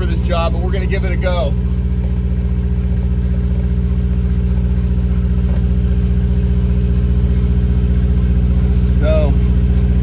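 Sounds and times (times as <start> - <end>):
diesel generator droning: 0.0 - 10.0.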